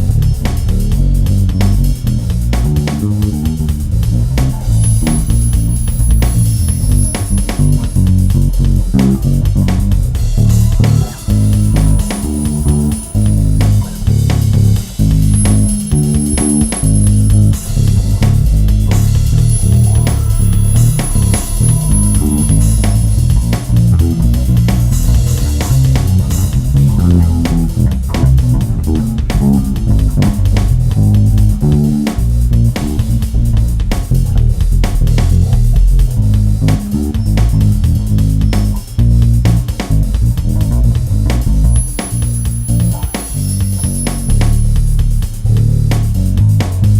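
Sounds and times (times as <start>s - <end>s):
bass guitar plucked notes: 0.0s - 46.9s.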